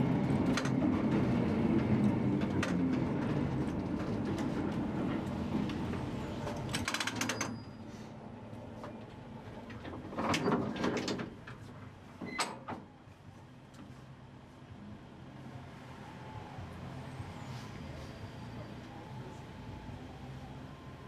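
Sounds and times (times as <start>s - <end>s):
tram running rumble: 0.0s - 21.0s.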